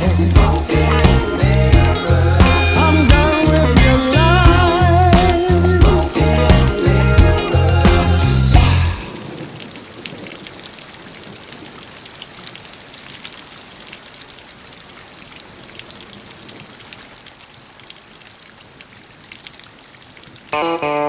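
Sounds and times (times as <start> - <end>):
rain falling: 0.0 - 21.0
raindrops ticking: 0.0 - 21.0.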